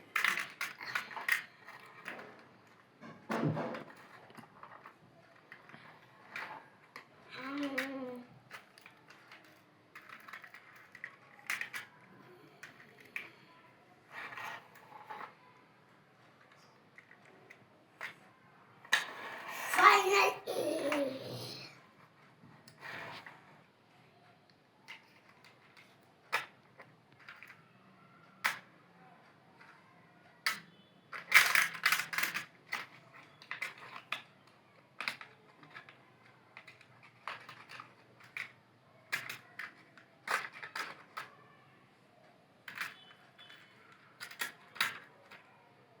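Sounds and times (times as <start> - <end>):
plastic toy cars clattering: 0.0 - 23.8, 24.6 - 46.0.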